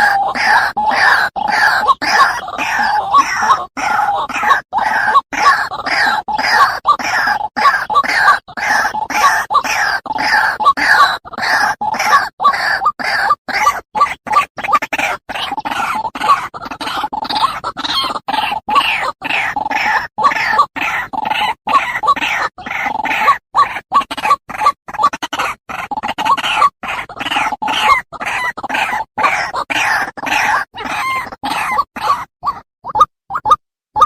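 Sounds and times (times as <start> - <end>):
waterhen calling: 0.0 - 34.0.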